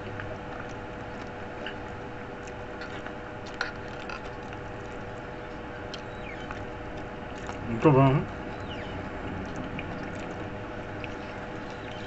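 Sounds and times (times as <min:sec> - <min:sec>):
chewing clicks and smacks: 0:00.0 - 0:12.0
faint hum: 0:00.0 - 0:12.0.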